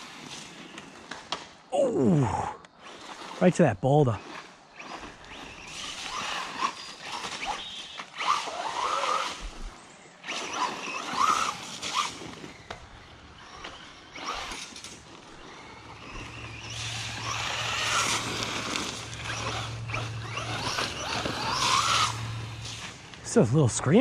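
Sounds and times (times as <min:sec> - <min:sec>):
tyres scrabbling on dirt: 0:00.0 - 0:01.7, 0:02.7 - 0:24.0
electric motor whining: 0:01.9 - 0:24.0.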